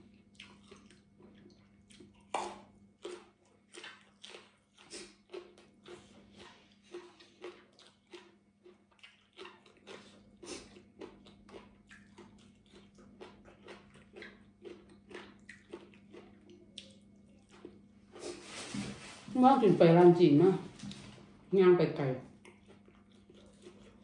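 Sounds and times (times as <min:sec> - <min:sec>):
person chewing with open mouth: 0:00.0 - 0:18.6, 0:22.3 - 0:24.0
faint steady hum: 0:00.0 - 0:24.0.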